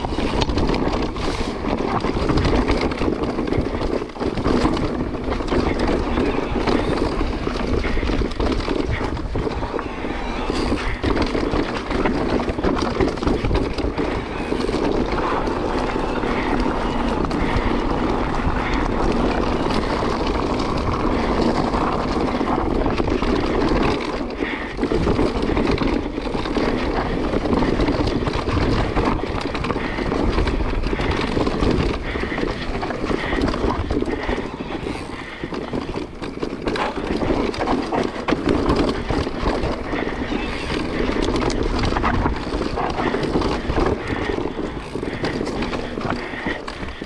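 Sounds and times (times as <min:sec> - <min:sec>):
bike tyres rushing on dirt: 0:00.0 - 0:47.0
wind on microphone: 0:00.0 - 0:47.0.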